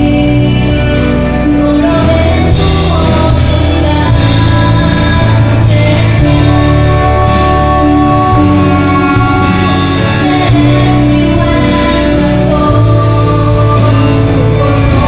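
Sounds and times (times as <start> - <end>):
organ-like keyboard chords: 0.0 - 15.0
worship band playing slow song: 0.0 - 15.0.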